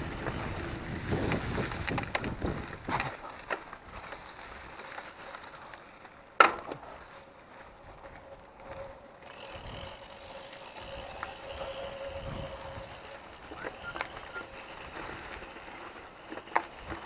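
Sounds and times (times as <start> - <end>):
mountain bike rattling on rough road: 0.0 - 17.0.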